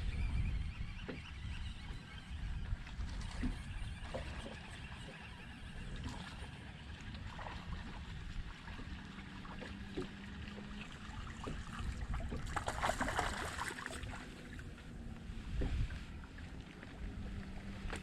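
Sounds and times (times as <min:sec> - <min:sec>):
water sloshing around boat: 0:00.0 - 0:18.0
wind buffeting microphone: 0:00.0 - 0:18.0.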